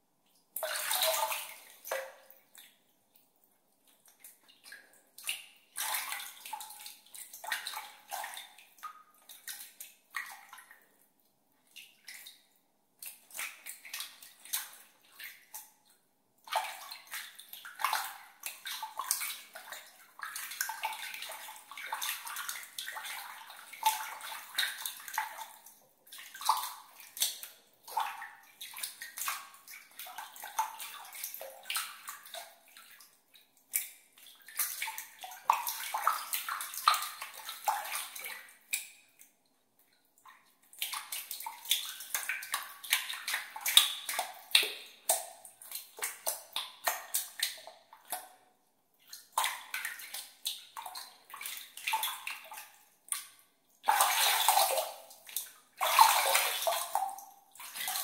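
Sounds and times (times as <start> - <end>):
water splashing by hand: 0.6 - 2.8, 4.0 - 10.8, 16.5 - 39.2, 40.7 - 48.3, 49.1 - 58.0.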